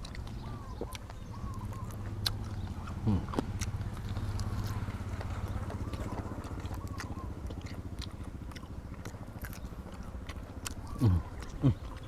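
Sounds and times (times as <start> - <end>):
person chewing and biting: 0.0 - 12.0.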